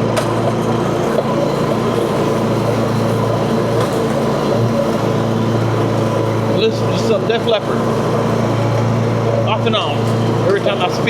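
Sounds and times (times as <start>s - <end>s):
mower engine running: 0.0s - 11.0s.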